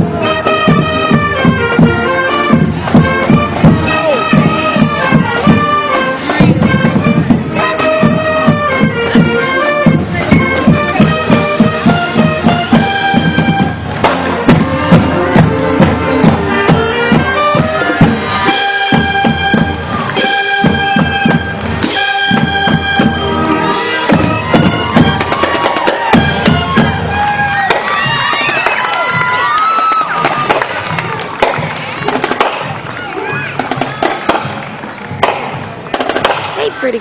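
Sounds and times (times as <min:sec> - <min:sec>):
marching band playing: 0:00.0 - 0:37.0
steady drum beat: 0:00.0 - 0:37.0.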